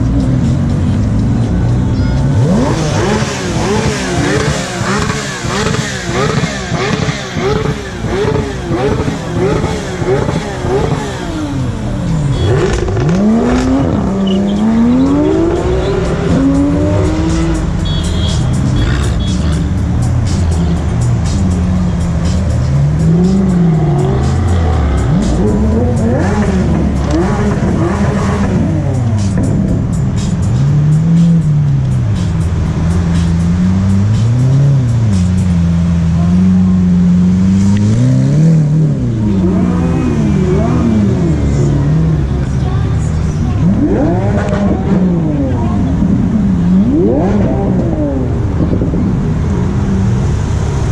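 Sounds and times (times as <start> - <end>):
sports car engines revving: 0.0 - 50.9.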